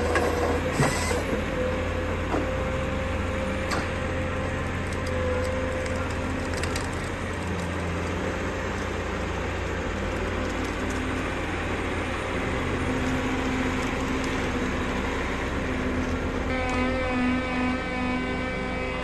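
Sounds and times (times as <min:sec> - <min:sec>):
heavy machine engine drone: 0:00.0 - 0:19.0.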